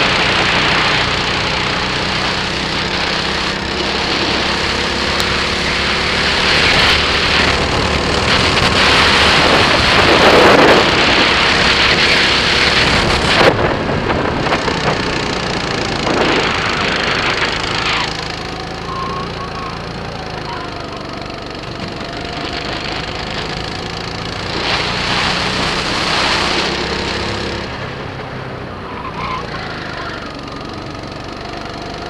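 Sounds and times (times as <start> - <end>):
rushing noise: 0.0 - 31.2
kart engine rattling: 0.0 - 32.0.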